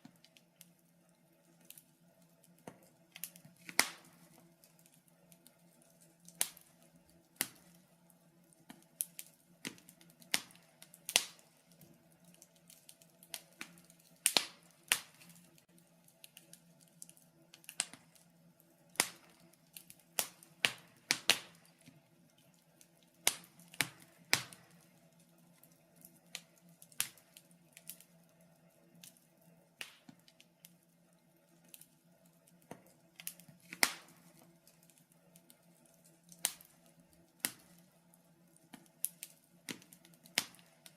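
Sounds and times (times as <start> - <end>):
faint steady hum: 0.0 - 40.9
wood fire crackling: 0.0 - 40.9.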